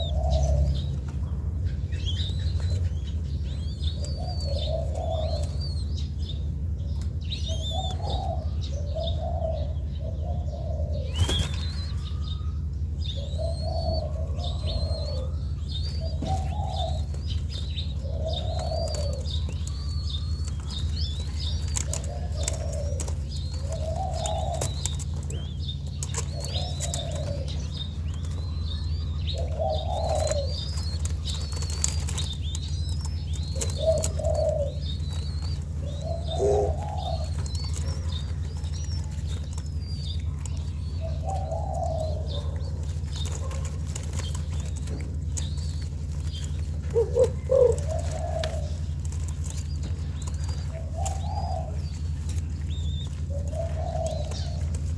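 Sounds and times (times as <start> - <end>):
dove cooing: 0.0 - 54.9
small birds chirping: 0.0 - 54.9
steady low hum: 0.0 - 54.9.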